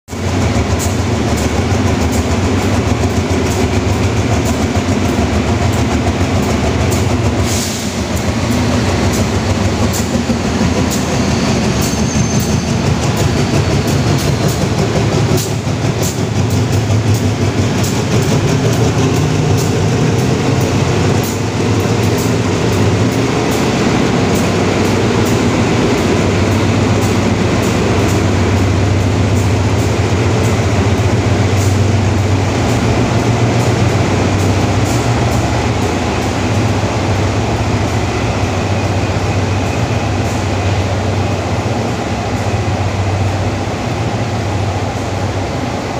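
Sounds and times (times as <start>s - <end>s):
locomotive engine drone: 0.1s - 45.9s.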